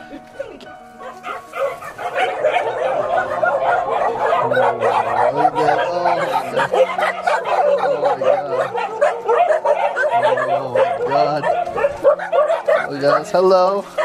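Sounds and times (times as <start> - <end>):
dogs barking and yipping: 0.0 - 14.0.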